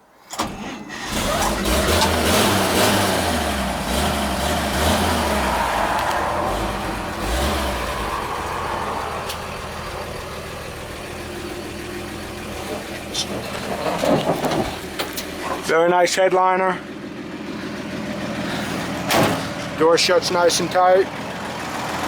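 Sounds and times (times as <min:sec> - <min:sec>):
truck engine idling: 0:00.4 - 0:22.0.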